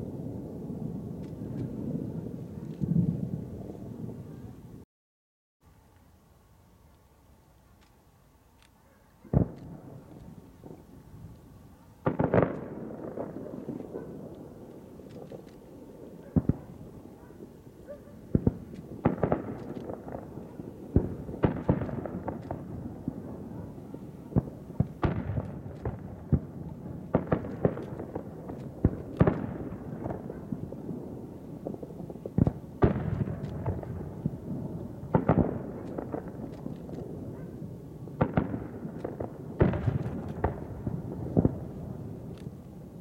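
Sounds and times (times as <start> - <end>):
firework bangs with echoing rumble: 0.0 - 4.3, 9.2 - 11.3, 12.0 - 42.9.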